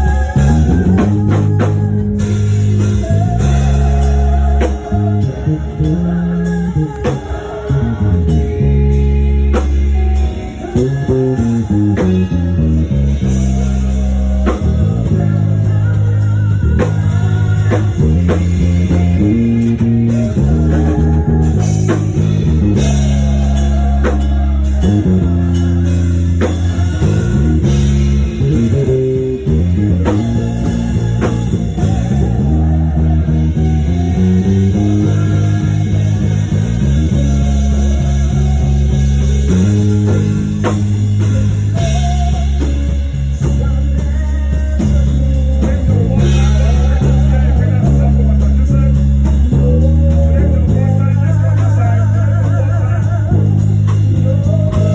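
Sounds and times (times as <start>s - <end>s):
bass guitar: 0.0s - 54.9s
drum kit beat: 0.0s - 54.9s
electric guitar: 0.0s - 54.9s.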